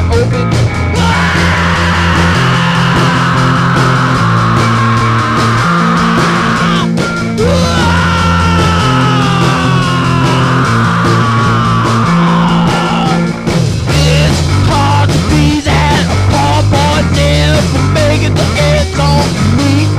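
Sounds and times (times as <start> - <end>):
instrumental rock music: 0.0 - 19.9.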